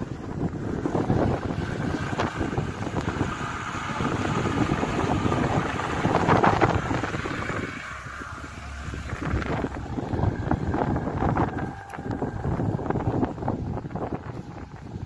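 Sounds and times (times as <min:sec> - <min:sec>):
vehicle rumbling on dirt track: 0:00.0 - 0:15.0
wind buffeting microphone: 0:00.0 - 0:15.0.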